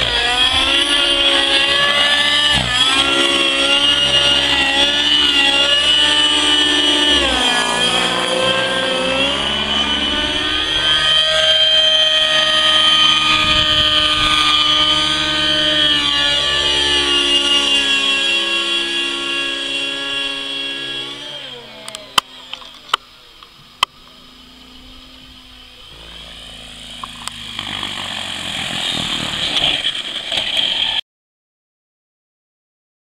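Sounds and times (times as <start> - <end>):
model helicopter engine whine: 0.0 - 31.0.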